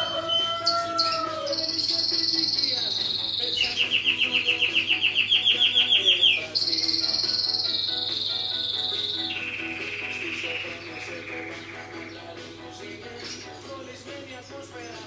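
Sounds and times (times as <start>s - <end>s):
songbird trilling: 0.0s - 15.0s.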